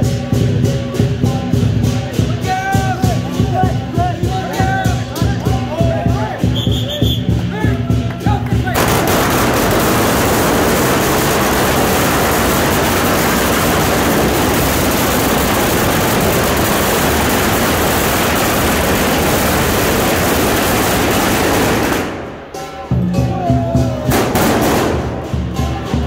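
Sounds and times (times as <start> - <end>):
firecrackers crackling: 0.0 - 22.9, 24.0 - 26.0.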